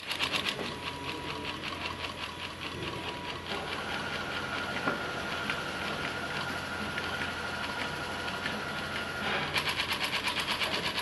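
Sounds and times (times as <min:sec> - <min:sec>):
sewing machine needle ticking: 0:00.0 - 0:04.8, 0:05.4 - 0:11.0
steady high whine: 0:00.0 - 0:11.0.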